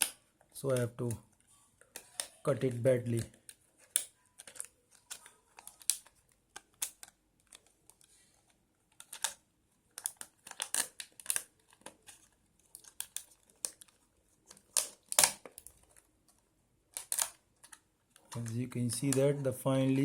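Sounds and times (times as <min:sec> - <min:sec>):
plastic packaging snapping and crinkling: 0:01.8 - 0:08.3, 0:08.9 - 0:19.4.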